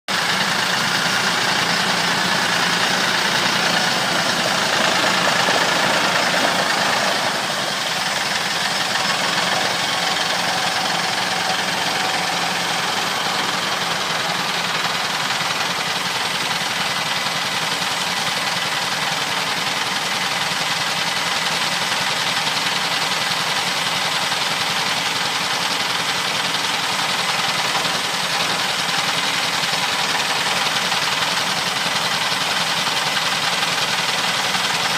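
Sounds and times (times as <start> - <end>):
sawmill engine running: 0.1 - 34.9.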